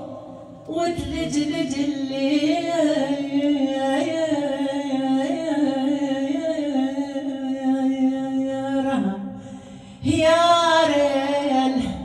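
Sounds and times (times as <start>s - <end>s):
woman singing unaccompanied: 0.0s - 9.2s, 10.0s - 12.0s.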